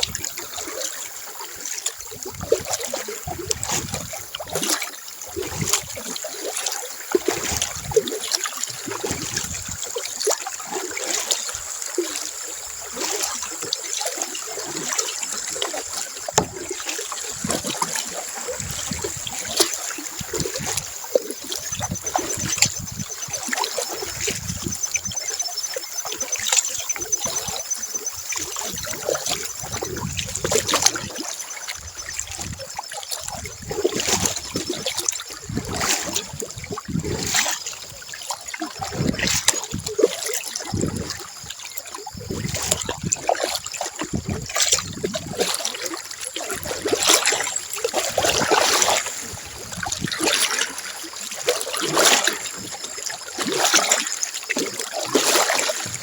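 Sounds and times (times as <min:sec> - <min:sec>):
paddle dipping and dripping: 0:00.0 - 0:56.0
water trickling and splashing: 0:00.0 - 0:56.0.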